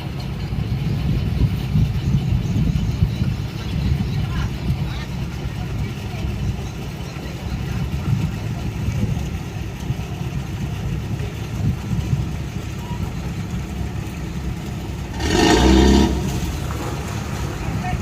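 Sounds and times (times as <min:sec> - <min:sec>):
boat diesel engine droning: 0:00.0 - 0:18.0.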